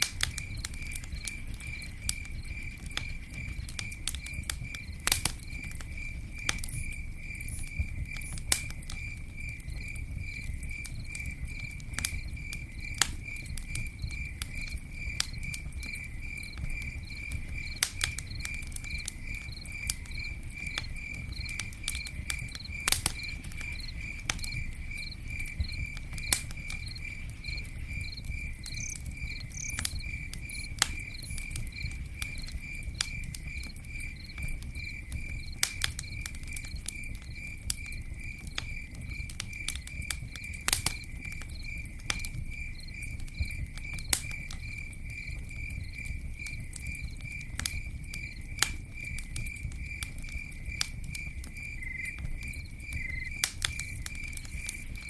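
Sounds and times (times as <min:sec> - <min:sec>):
campfire crackling: 0:00.0 - 0:55.0
cricket chirping: 0:00.0 - 0:55.0.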